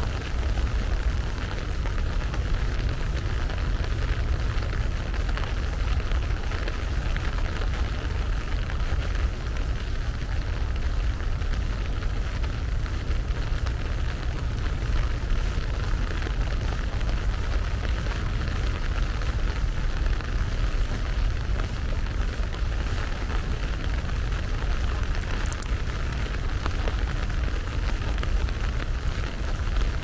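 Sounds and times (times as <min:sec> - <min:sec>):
rain pattering: 0:00.0 - 0:30.0.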